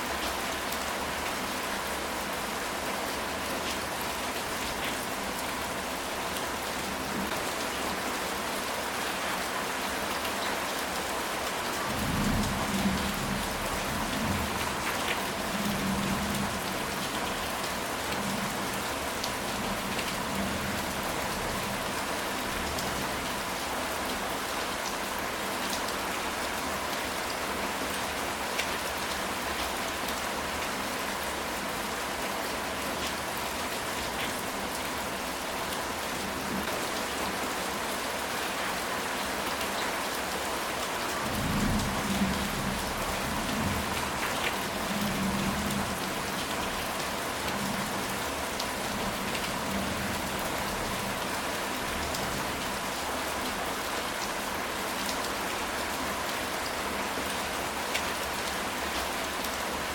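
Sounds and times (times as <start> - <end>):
rain on a tile roof: 0.0 - 59.9.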